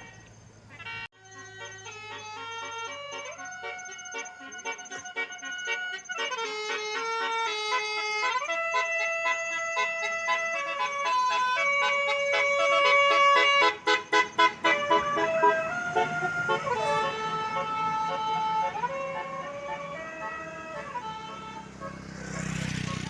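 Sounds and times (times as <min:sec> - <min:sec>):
bus musical horn playing a tune: 0:00.0 - 0:23.0.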